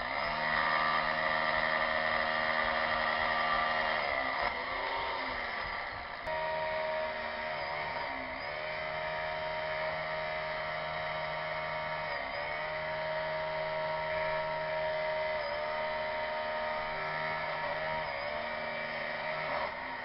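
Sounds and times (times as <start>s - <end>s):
electric drill motor whirring: 0.0s - 20.0s.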